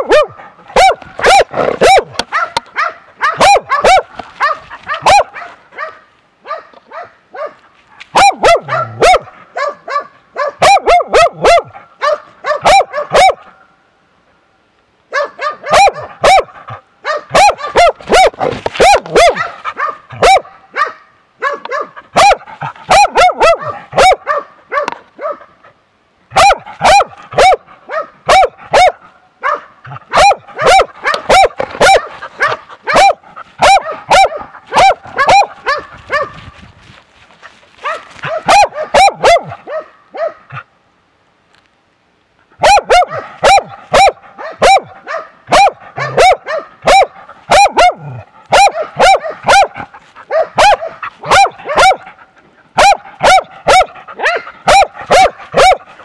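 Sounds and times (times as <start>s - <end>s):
dog barking: 0.0s - 13.7s, 15.1s - 25.6s, 26.3s - 36.4s, 37.8s - 40.7s, 42.6s - 52.2s, 52.8s - 56.0s.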